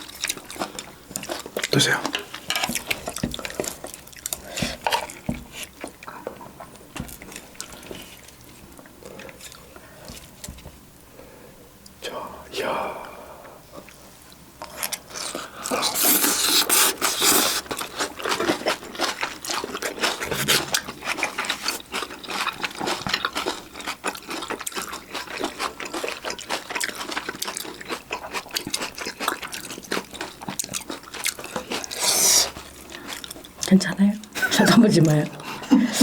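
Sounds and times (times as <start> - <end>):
crunching and chewing food: 0.0 - 10.7, 13.7 - 34.4.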